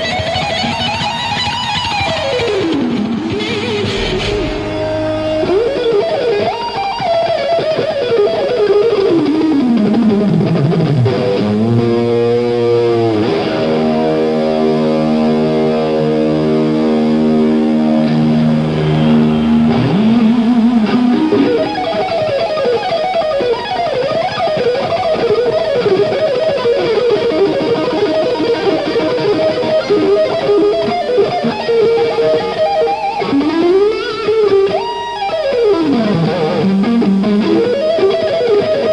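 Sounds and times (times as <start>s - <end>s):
electric guitar solo: 0.0s - 38.9s.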